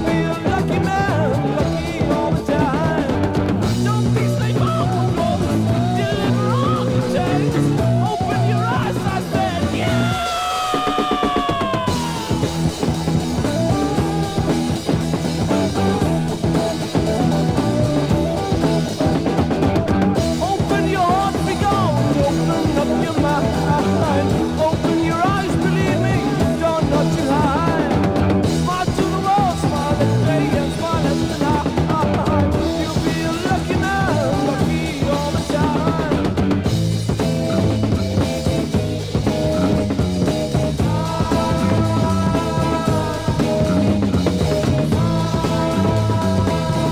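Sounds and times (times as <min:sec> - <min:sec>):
drum kit steady beat: 0:00.0 - 0:46.9
wavering lead guitar line: 0:00.0 - 0:46.9.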